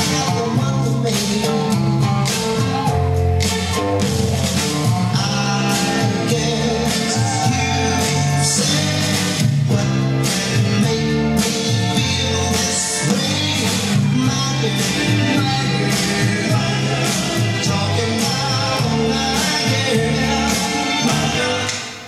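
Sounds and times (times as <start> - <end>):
steady drum beat: 0.0 - 21.6
walking bass line: 0.0 - 21.7
soul song with lead singer: 0.0 - 22.0.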